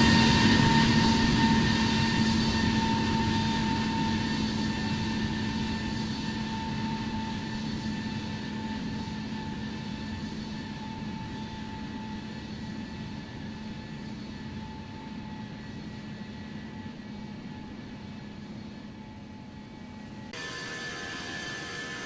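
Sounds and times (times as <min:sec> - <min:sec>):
airplane engines running: 0:00.0 - 0:22.0.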